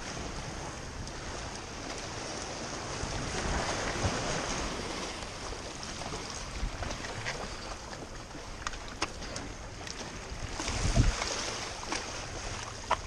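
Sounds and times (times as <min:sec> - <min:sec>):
waves breaking against rocks: 0:00.0 - 0:13.0
wind buffeting microphone: 0:00.0 - 0:13.0.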